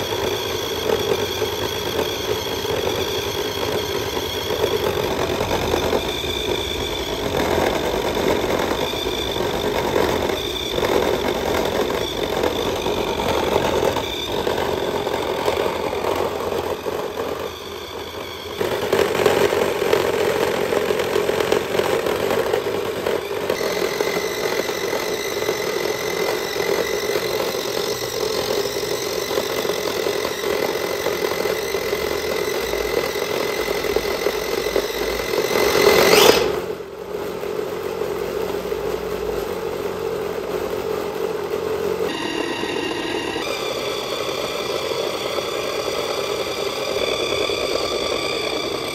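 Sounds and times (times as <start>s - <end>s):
toy car motor whirring with rattle: 0.0s - 36.6s, 43.3s - 48.9s
steady high tone: 0.0s - 36.9s, 41.8s - 48.9s.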